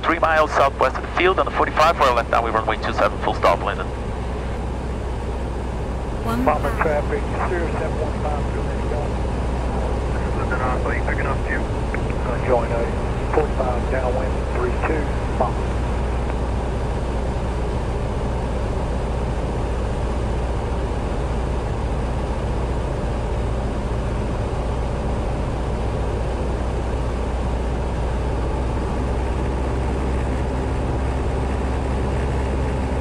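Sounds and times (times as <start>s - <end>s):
light plane engine drone in cabin: 0.0s - 33.0s.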